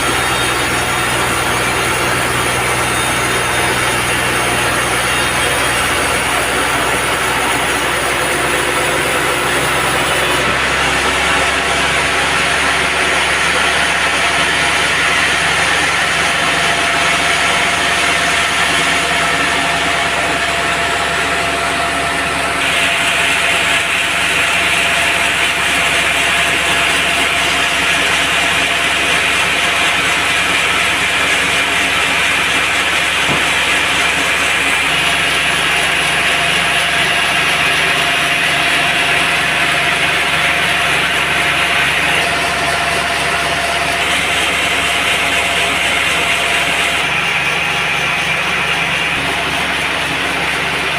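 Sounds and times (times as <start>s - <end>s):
band sawmill running: 0.0s - 50.9s
saw blade cutting log: 0.0s - 50.9s.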